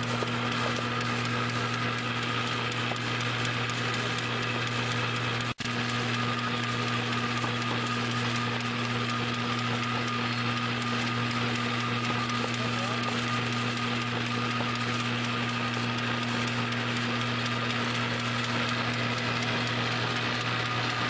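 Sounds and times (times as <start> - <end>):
machine motor whirring: 0.0 - 21.0.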